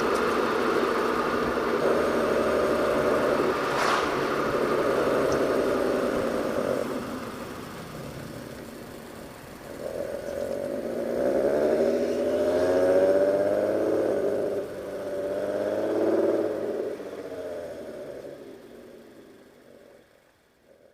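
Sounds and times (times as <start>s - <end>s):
car engine running: 0.0s - 20.9s.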